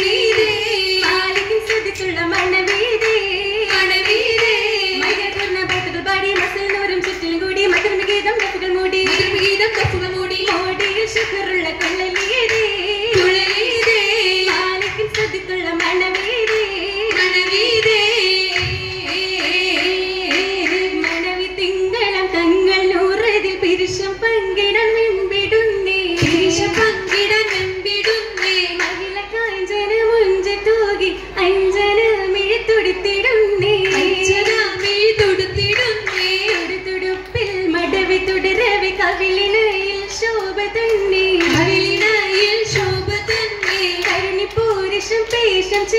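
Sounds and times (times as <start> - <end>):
hand clapping rhythm: 0.0 - 22.6, 26.1 - 29.5, 33.5 - 45.9
women singing a melody: 0.0 - 45.9.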